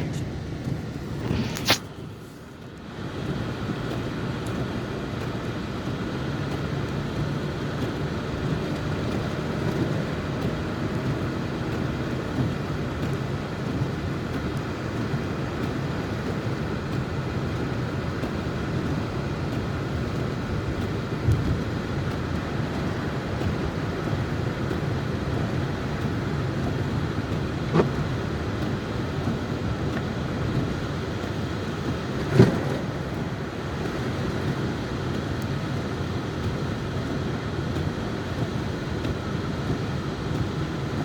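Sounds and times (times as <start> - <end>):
car tyres and engine rumble: 0.0 - 41.0.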